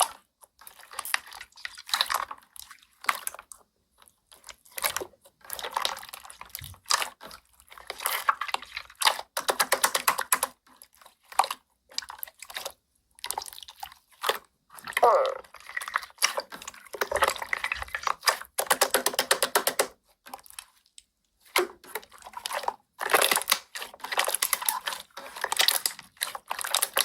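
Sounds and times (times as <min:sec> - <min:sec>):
slime squishing by hand: 0:00.0 - 0:27.0.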